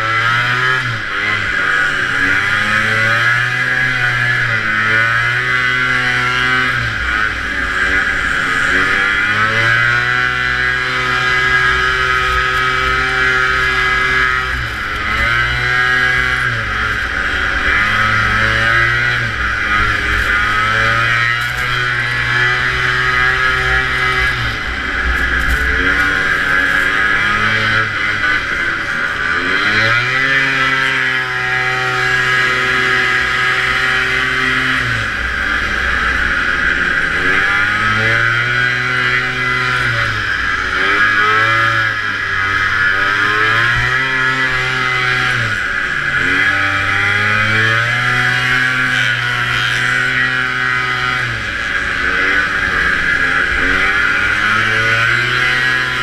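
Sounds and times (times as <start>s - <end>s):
snowmobile engine racing: 0.0s - 56.0s.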